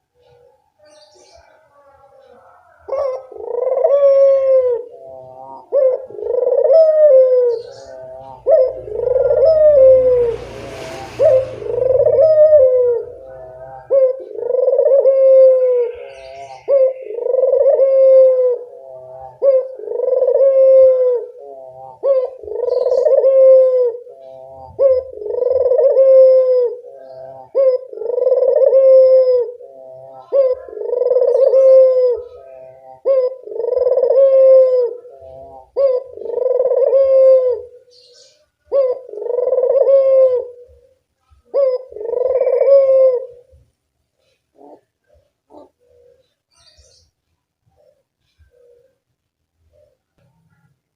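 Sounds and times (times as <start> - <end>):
dove cooing: 0.0 - 50.8.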